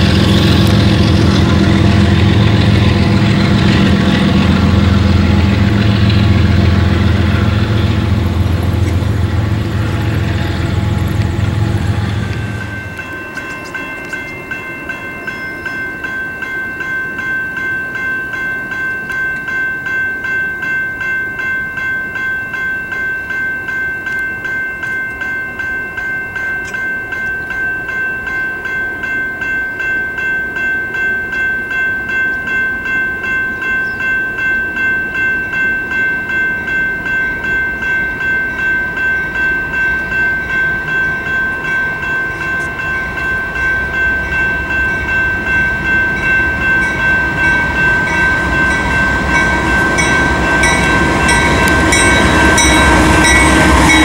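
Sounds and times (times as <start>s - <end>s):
diesel locomotives running: 0.0s - 54.0s.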